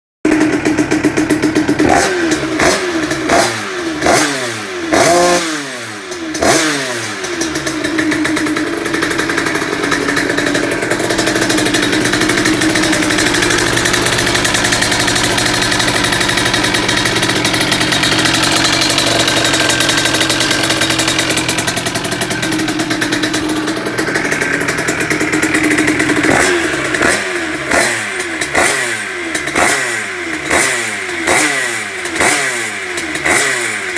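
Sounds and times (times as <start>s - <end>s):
two-stroke engine revving: 0.3s - 33.9s.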